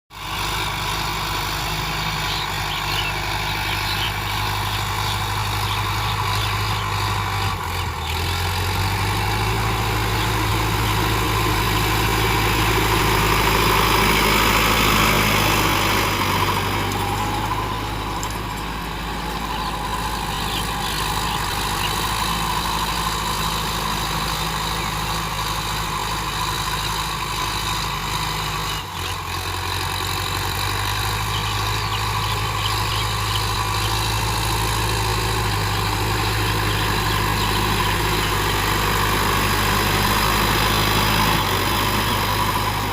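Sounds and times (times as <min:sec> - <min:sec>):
tractor engine running: 0:00.1 - 0:42.9.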